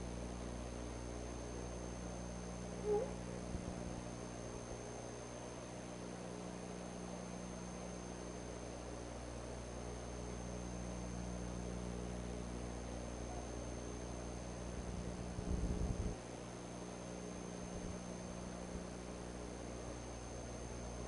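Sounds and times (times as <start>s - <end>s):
low electrical hum: 0.0s - 21.0s
thin high whine: 0.0s - 21.0s.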